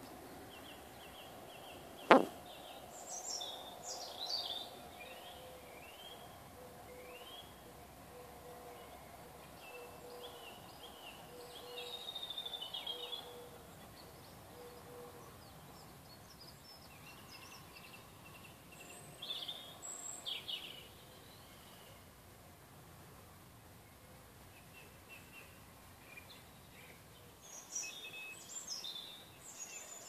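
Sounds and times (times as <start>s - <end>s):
songbirds singing: 0.0s - 22.3s, 23.7s - 30.0s
faint outdoor background noise: 0.0s - 30.0s.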